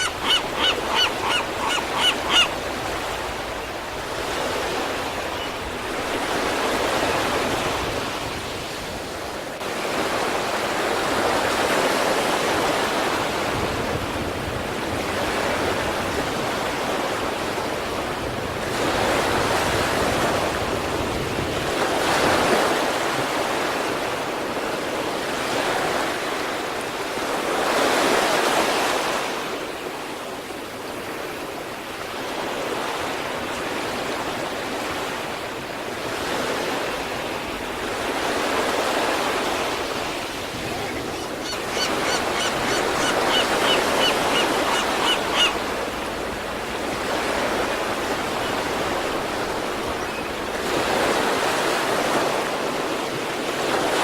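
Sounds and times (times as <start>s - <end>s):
surf washing onto shore: 0.0s - 54.0s.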